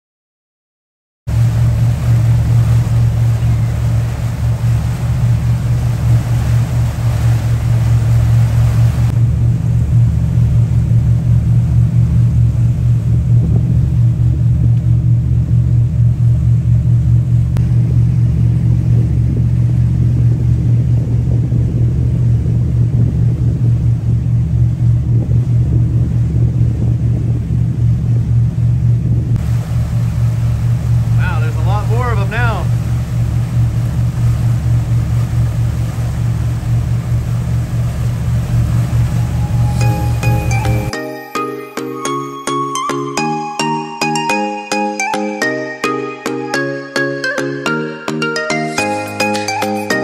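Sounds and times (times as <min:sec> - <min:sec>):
water rushing past hull: 0:01.3 - 0:42.2
boat engine droning: 0:01.3 - 0:50.0.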